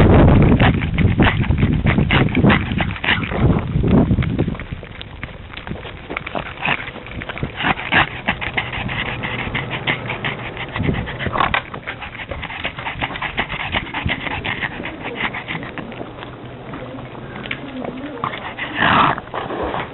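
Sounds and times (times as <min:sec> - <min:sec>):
dog panting fast: 0:00.0 - 0:03.6, 0:06.2 - 0:16.2, 0:17.4 - 0:19.9.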